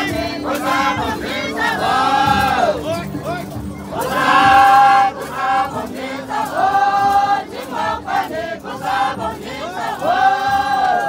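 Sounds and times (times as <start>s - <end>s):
group chanting in unison: 0.0s - 2.9s, 3.9s - 11.0s.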